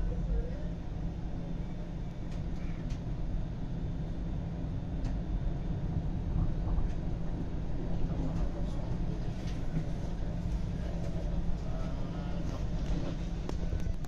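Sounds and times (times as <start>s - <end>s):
streetcar rumbling on rails: 0.0s - 14.0s.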